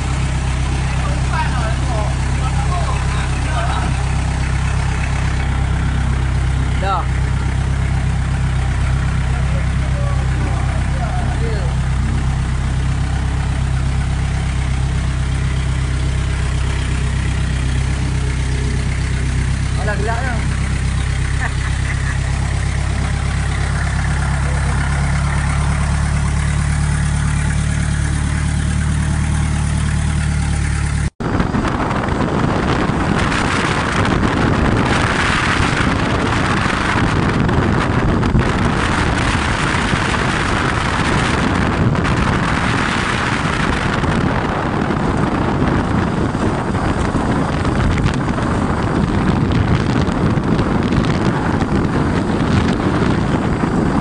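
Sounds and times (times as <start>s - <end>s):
boat engine humming: 0.0s - 54.0s
motorcycle engine running: 0.0s - 54.0s
rushing noise: 0.0s - 54.0s.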